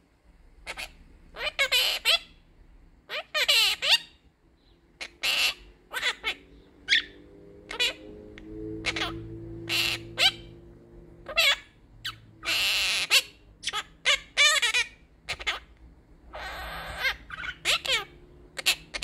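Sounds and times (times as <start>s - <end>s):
parrot squawk: 0.6s - 2.4s, 3.1s - 4.2s, 5.0s - 10.6s, 11.2s - 19.0s
parrot talking: 0.6s - 2.4s, 3.1s - 4.2s, 5.0s - 10.6s, 11.2s - 15.7s, 16.3s - 19.0s.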